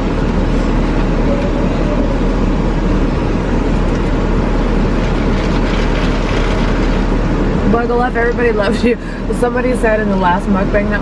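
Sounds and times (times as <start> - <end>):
car cabin idling hum: 0.0 - 11.0.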